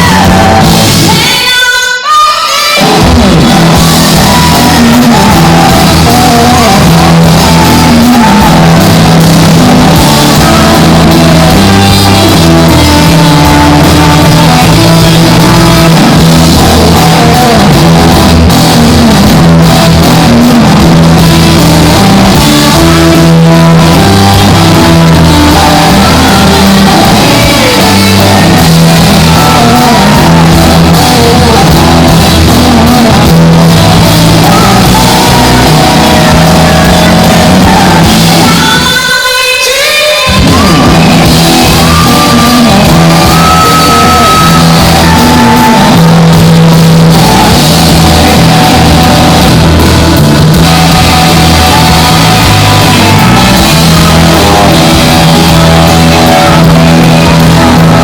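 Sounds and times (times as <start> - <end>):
bass guitar: 0.0 - 1.5, 2.8 - 39.0, 40.3 - 58.0
drums: 0.0 - 58.0
electric guitar: 0.0 - 58.0
shouted distorted singing: 0.0 - 58.0.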